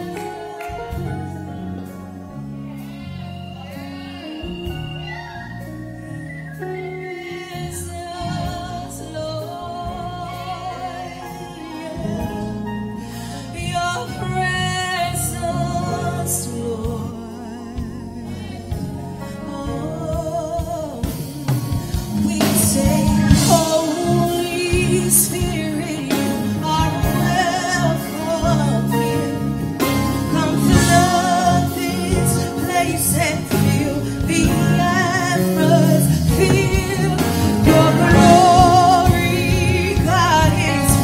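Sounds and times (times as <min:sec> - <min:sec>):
gospel song with person singing: 0:00.0 - 0:41.0.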